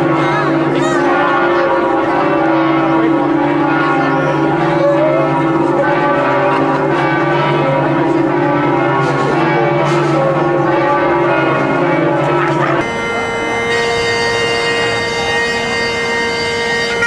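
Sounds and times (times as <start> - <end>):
bagpipe drones: 0.0 - 17.0.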